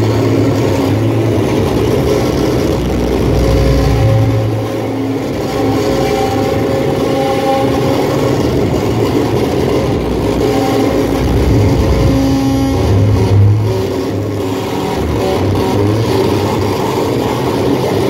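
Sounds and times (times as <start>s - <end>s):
distorted noise music: 0.0s - 18.0s.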